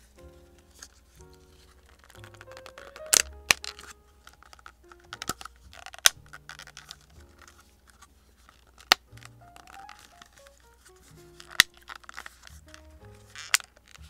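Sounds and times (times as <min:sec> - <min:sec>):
plastic crinkling: 0:00.0 - 0:14.0.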